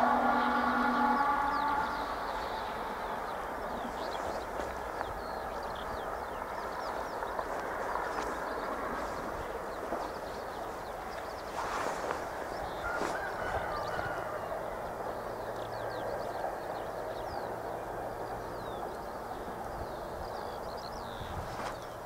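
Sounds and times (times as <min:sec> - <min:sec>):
small birds chirping: 0:01.5 - 0:22.0.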